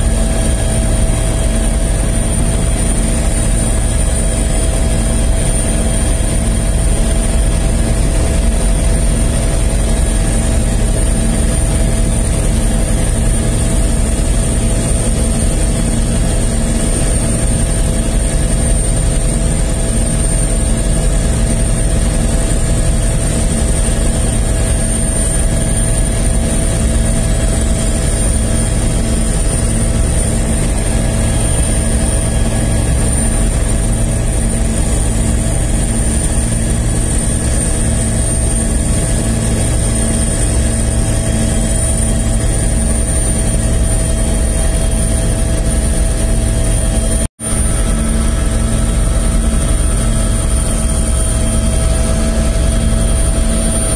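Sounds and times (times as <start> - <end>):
helicopter engine and rotor: 0.0 - 53.9.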